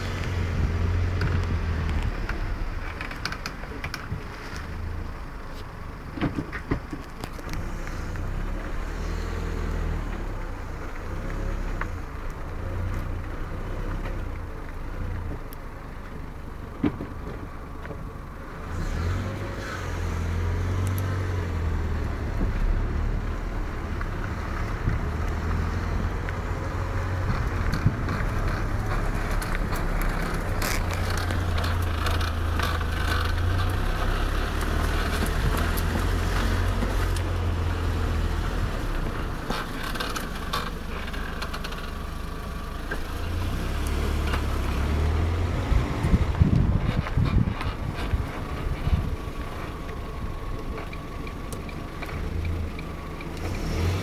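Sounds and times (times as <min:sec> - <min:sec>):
brakes sweeping: 0:00.0 - 0:54.0
car engine and tyres rumbling: 0:00.0 - 0:54.0.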